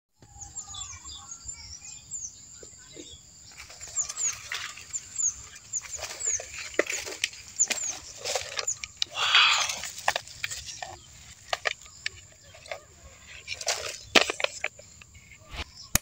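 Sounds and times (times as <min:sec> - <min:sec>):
birds chirping: 0:00.2 - 0:16.0
rustling of dry leaves: 0:02.8 - 0:15.8.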